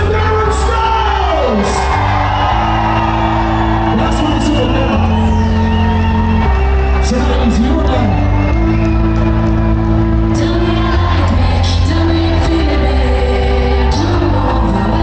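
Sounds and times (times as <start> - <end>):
loud hardcore dance music: 0.0 - 15.0.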